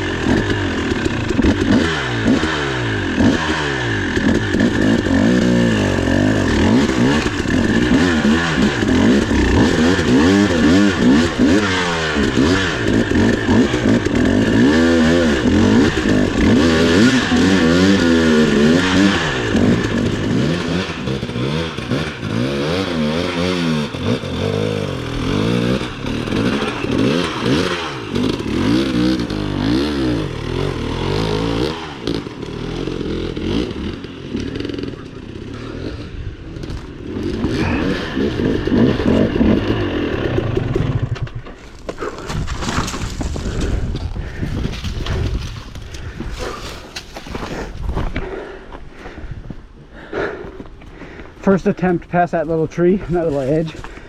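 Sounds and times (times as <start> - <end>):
dirt bike engine revving: 0.0 - 48.6, 50.0 - 54.0.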